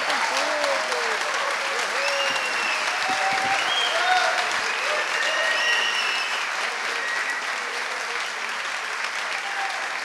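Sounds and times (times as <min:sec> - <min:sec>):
audience applauding: 0:00.0 - 0:10.0
audience calls: 0:00.0 - 0:10.0.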